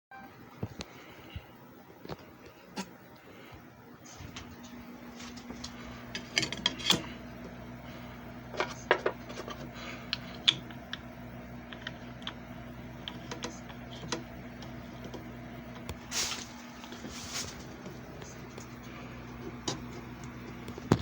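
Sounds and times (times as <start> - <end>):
disc repair machine humming: 2.0 - 21.0.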